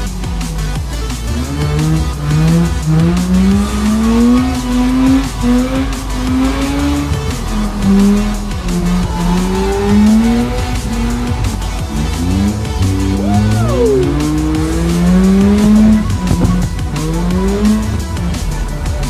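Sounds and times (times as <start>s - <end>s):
car engine revving: 0.0s - 19.0s
tyres squealing: 0.4s - 19.0s.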